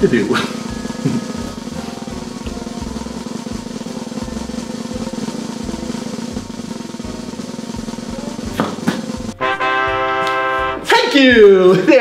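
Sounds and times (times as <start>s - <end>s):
low bass thuds: 0.0s - 10.8s
synthesized snare drum roll: 0.0s - 11.6s.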